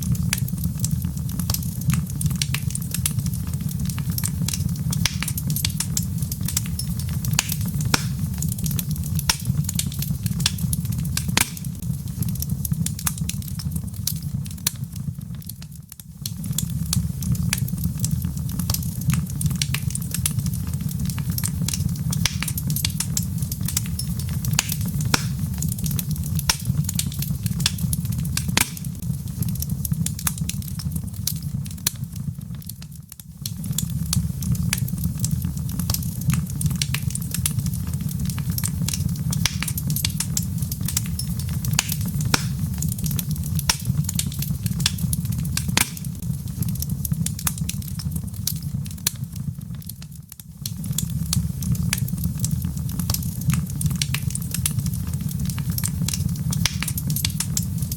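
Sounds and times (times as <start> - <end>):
burning wood crackling and popping: 0.0 - 57.9
low rumble of fire: 0.0 - 57.9.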